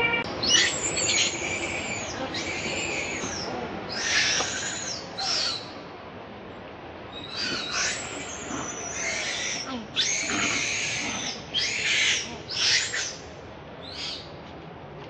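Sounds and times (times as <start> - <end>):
young monkey screaming: 0.0 - 5.8, 7.1 - 14.2.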